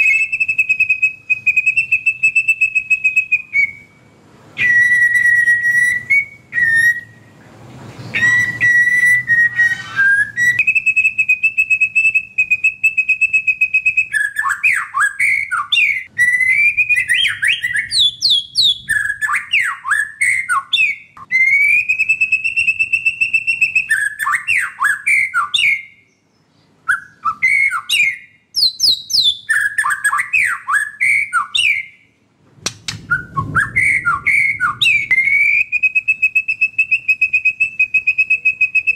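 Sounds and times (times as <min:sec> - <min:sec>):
songbird whistling song: 0:00.0 - 0:32.2, 0:32.8 - 0:38.9.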